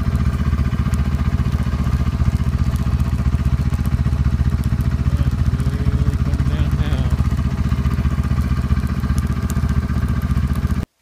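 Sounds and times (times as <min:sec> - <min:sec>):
snowmobile engine idling: 0:00.0 - 0:10.9.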